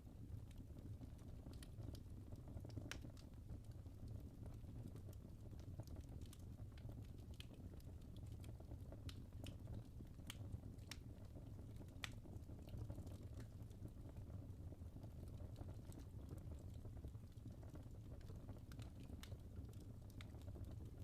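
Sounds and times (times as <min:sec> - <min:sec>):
rumble of flames: 0:00.0 - 0:21.0
logs crackling and popping: 0:00.4 - 0:14.3, 0:15.1 - 0:21.0.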